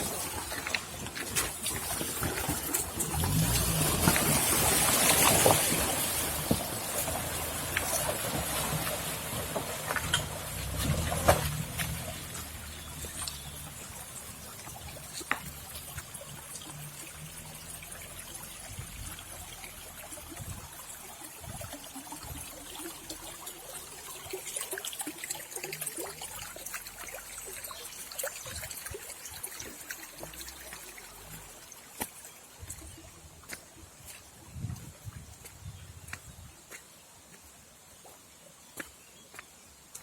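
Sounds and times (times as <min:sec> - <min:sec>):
water trickling over waterfall: 0:00.0 - 0:40.0.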